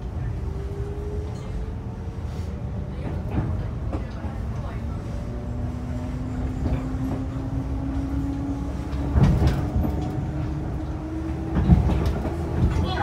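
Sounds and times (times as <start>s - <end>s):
train running drone: 0.0s - 13.0s
train wheels rumbling on rails: 0.0s - 13.0s.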